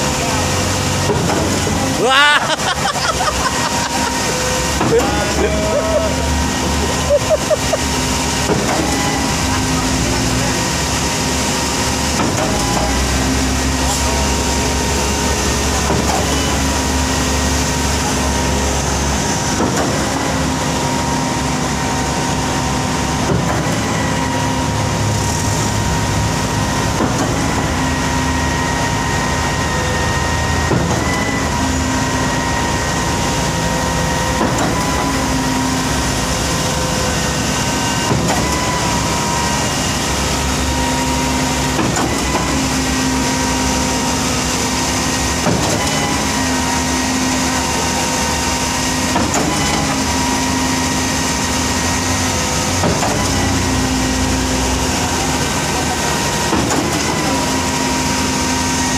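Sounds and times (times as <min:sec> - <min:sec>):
heavy diesel machinery running: 0:00.0 - 0:58.9
machine whine: 0:00.0 - 0:58.9.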